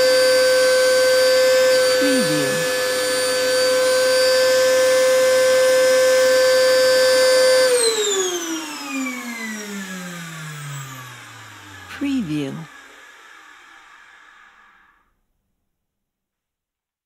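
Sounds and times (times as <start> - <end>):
vacuum cleaner motor whine: 0.0 - 11.9, 12.7 - 15.0.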